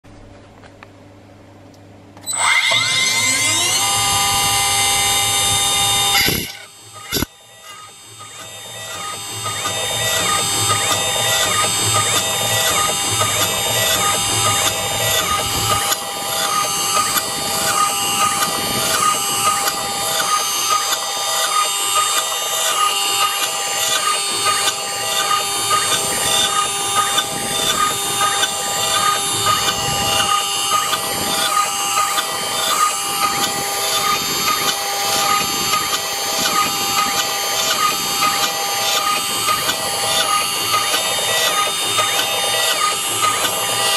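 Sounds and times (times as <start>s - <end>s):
end mill cutting wood: 2.2s - 43.9s
milling machine spindle whine: 2.2s - 43.9s.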